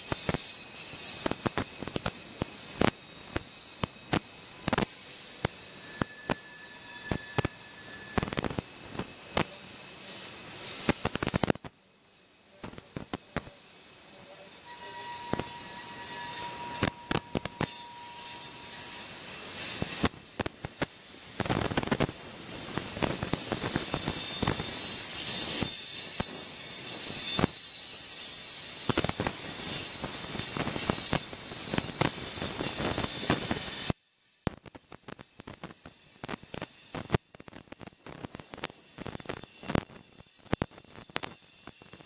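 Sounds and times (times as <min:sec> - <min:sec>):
high wheel squeal: 0:00.0 - 0:34.0
train wheels on rails: 0:00.0 - 0:42.0.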